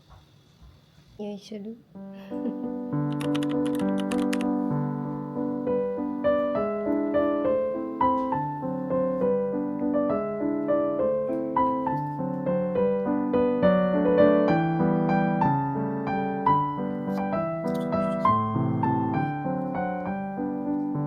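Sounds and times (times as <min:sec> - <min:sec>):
gentle piano piece: 0:02.0 - 0:21.0.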